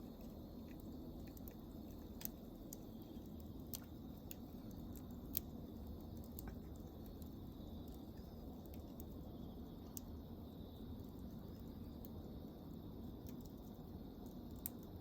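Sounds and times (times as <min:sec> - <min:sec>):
campfire crackling: 0:00.0 - 0:15.0
soft steady hiss: 0:00.0 - 0:15.0.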